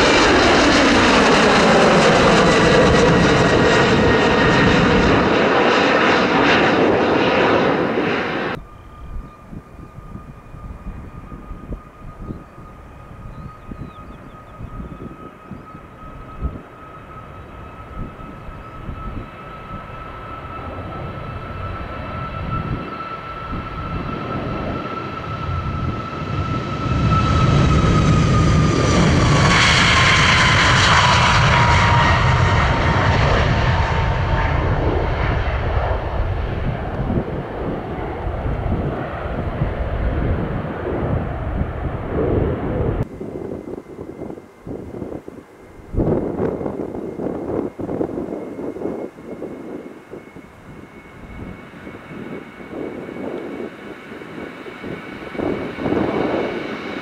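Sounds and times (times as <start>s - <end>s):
high jet engine whine: 0.0s - 57.0s
jet airliner taking off: 0.0s - 57.0s.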